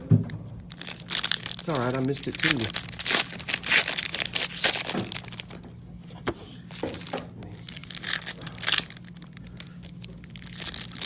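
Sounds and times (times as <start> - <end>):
foil wrappers crinkling and tearing: 0.7 - 5.6, 6.7 - 11.0.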